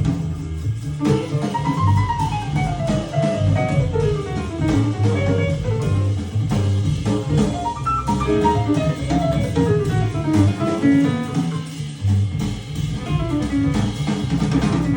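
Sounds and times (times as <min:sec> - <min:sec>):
guitar-led instrumental music: 0:01.0 - 0:11.8, 0:12.9 - 0:14.9.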